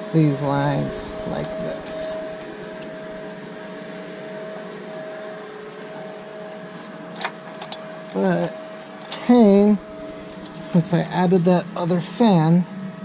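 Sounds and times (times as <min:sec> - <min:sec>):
mechanical hum with whine: 0:00.0 - 0:13.0.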